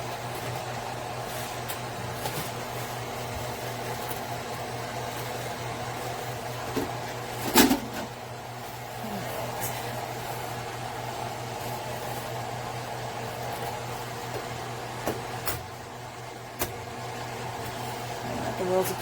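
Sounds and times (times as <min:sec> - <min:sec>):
cooling fan humming: 0:00.0 - 0:19.0.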